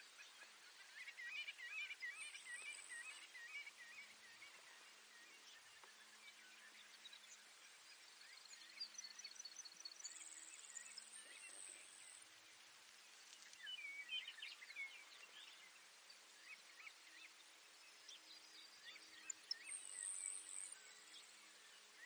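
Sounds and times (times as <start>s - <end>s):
sparrow song and chirps: 0.0s - 12.6s, 13.2s - 22.0s
soft field hiss: 0.0s - 22.0s.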